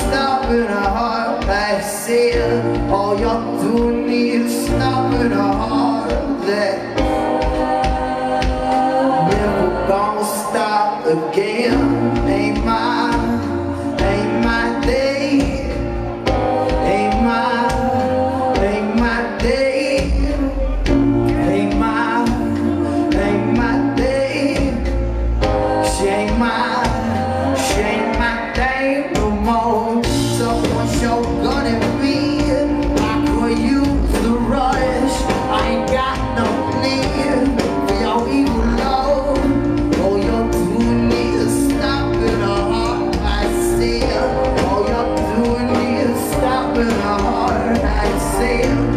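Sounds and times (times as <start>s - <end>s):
drums: 0.0s - 48.9s
electric guitar: 0.0s - 48.9s
man singing: 0.0s - 48.9s.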